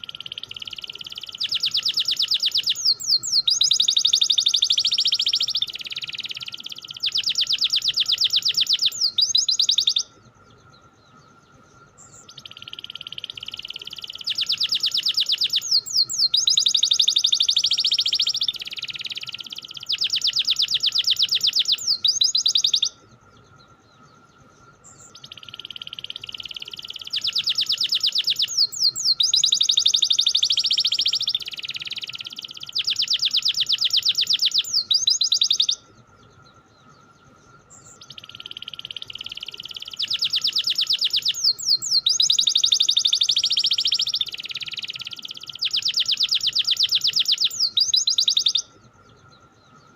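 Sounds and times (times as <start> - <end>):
canary singing trills: 0.0 - 49.9
faint steady high tone: 0.0 - 49.9.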